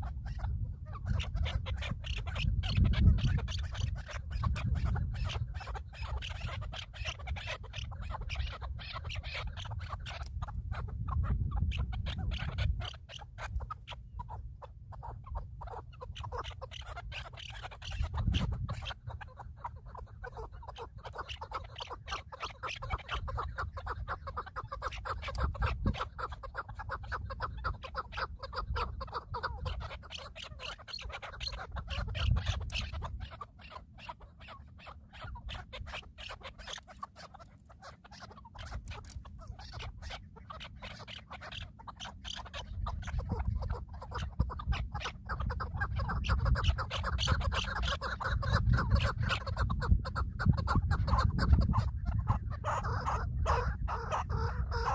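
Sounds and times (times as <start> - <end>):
birds chattering harshly: 0.0 - 54.9.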